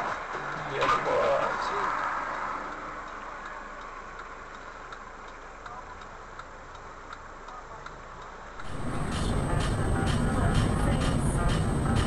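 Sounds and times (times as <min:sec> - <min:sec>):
engine and road hum: 0:00.0 - 0:12.0
turn signal ticking: 0:00.0 - 0:12.0.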